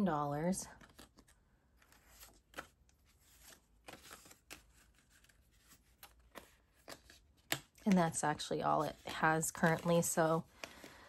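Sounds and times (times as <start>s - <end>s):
banknotes rustling: 0.4s - 11.0s.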